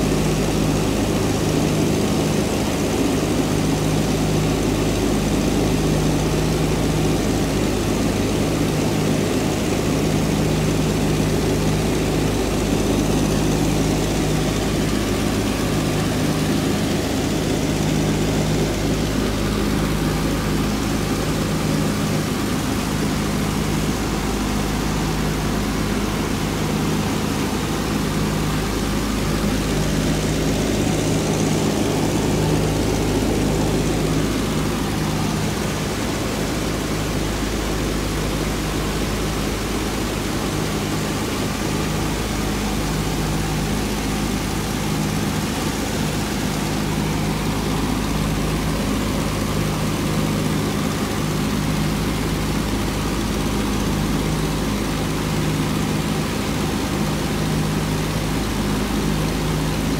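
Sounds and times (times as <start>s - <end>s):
aircraft engines droning: 0.0s - 59.9s.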